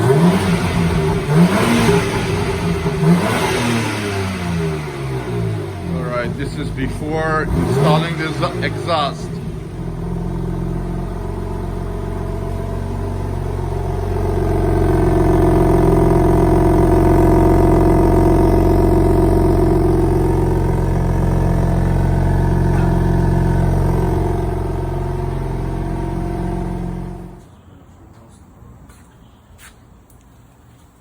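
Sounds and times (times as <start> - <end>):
car engine running: 0.0 - 27.5.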